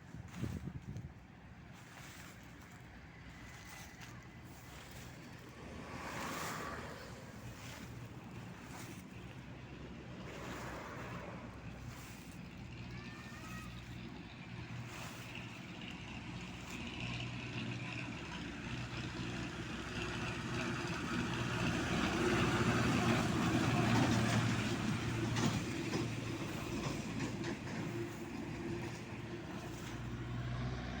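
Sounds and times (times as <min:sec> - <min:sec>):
low engine hum: 0:00.0 - 0:31.0
motor vehicle passing by: 0:00.1 - 0:31.0.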